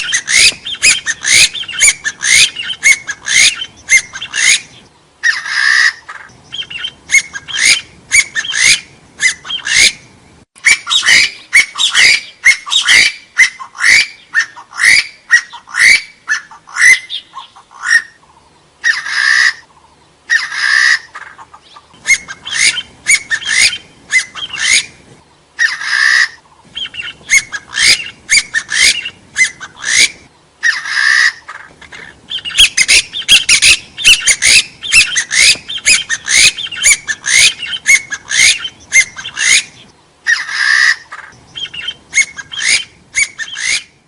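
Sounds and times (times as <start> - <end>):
partridge whistled calls: 0.0 - 44.0.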